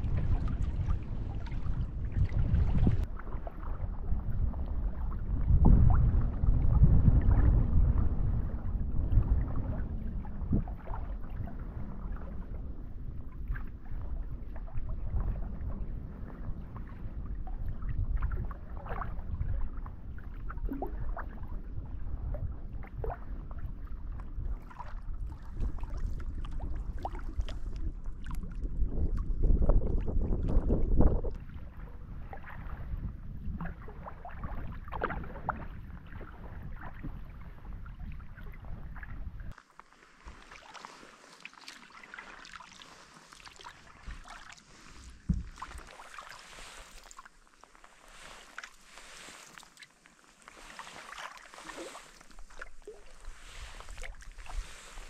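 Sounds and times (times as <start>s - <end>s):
waves splashing against kayak hull: 0.0s - 21.6s, 22.2s - 28.6s, 30.0s - 55.0s
wind rumbling on microphone: 0.0s - 39.6s, 42.4s - 55.0s.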